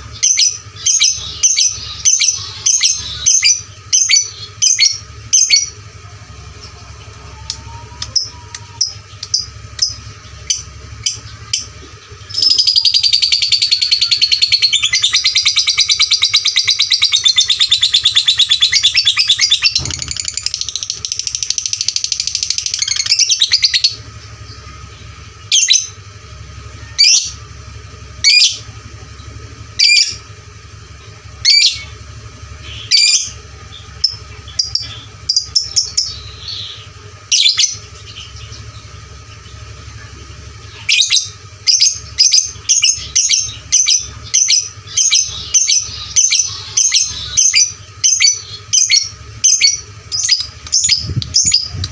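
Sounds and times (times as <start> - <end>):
lovebird chirping and chattering: 0.0 - 5.8, 6.5 - 26.0, 26.8 - 27.4, 28.0 - 51.9.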